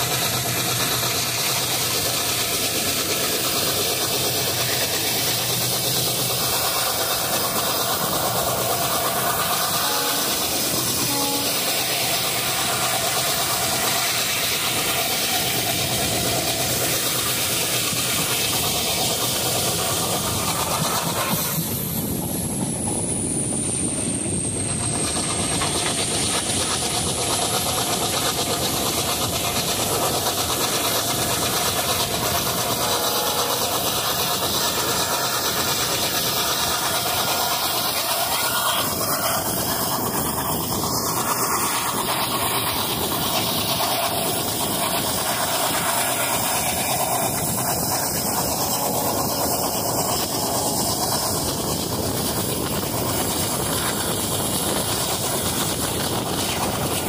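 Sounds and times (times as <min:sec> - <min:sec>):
train wheels rushing on rails: 0:00.0 - 0:57.0.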